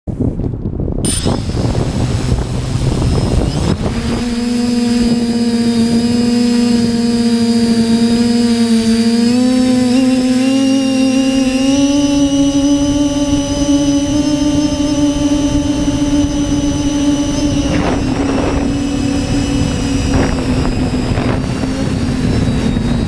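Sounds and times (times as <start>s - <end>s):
wind buffeting microphone: 0.1s - 23.0s
drone propellers humming: 1.0s - 23.0s.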